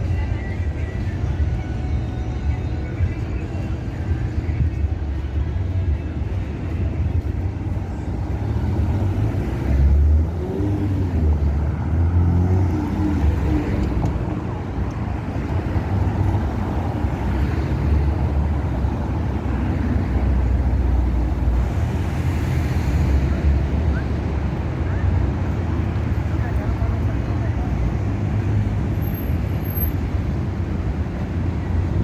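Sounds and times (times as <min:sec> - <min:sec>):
faint voices of passers-by: 0:00.0 - 0:32.0
passing car traffic: 0:00.0 - 0:32.0.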